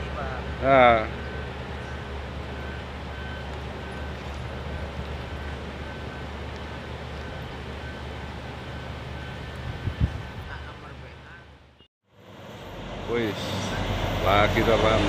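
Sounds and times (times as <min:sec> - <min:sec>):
truck engines running: 0:00.0 - 0:15.0.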